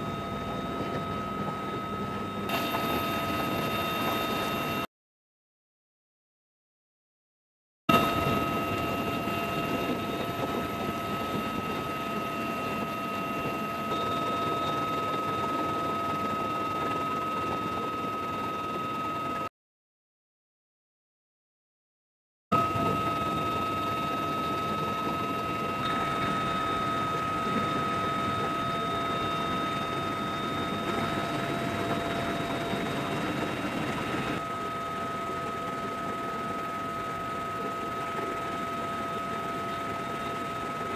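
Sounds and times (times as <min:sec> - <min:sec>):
helicopter rotor and wind rush: 0:00.0 - 0:04.9, 0:07.9 - 0:19.5, 0:22.5 - 0:40.9
high-pitched engine whine: 0:00.0 - 0:04.9, 0:07.9 - 0:19.5, 0:22.6 - 0:40.9.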